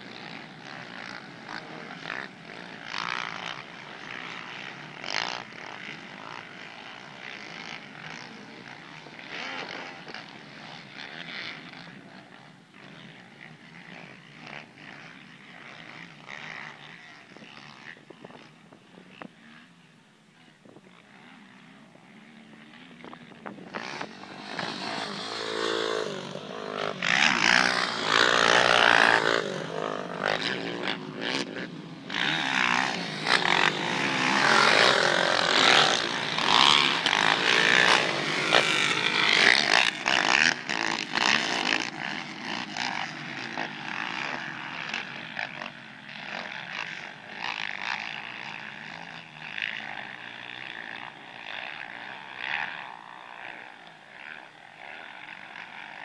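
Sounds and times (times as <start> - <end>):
quad engines revving: 0.0 - 56.0.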